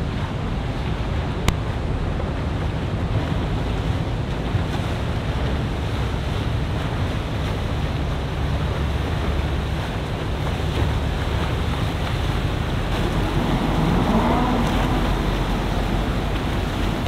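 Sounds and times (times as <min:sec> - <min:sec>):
boat engine rumble: 0:00.0 - 0:17.0
rush of boat wake: 0:00.0 - 0:17.0
wind buffeting microphone: 0:00.0 - 0:17.0.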